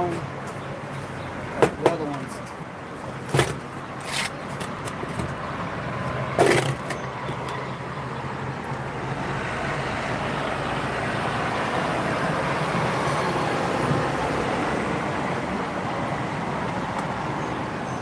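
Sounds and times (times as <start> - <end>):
motor vehicle noise: 0.0 - 18.0.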